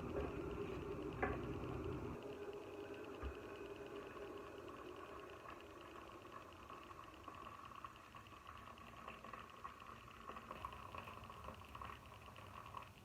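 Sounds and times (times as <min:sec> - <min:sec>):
food simmering in a pan: 0:00.0 - 0:13.0.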